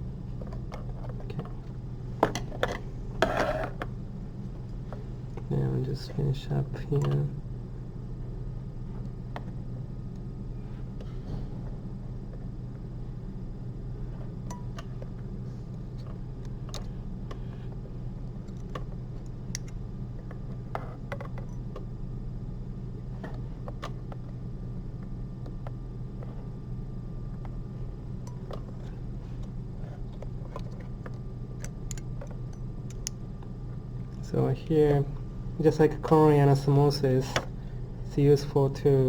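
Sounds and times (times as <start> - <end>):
ventilation hum: 0.0 - 39.0.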